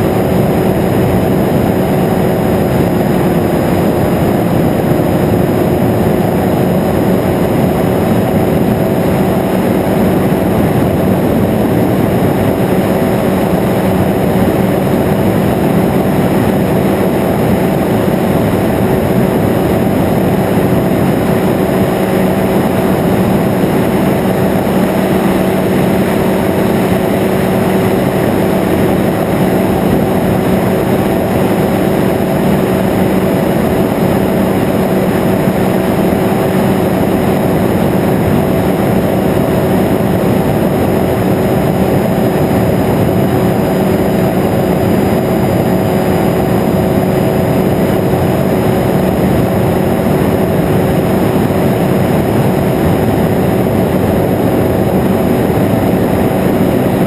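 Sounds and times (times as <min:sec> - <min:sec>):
engine and propeller drone: 0:00.0 - 0:57.0.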